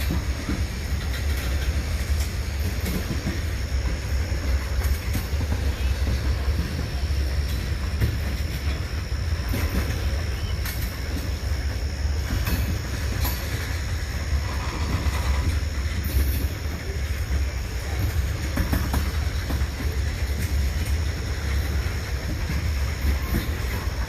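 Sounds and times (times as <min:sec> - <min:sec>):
high whine: 0:00.0 - 0:24.0
steel wheels rumbling on rail: 0:00.0 - 0:24.0
wheels clicking over rail joints: 0:00.0 - 0:24.0.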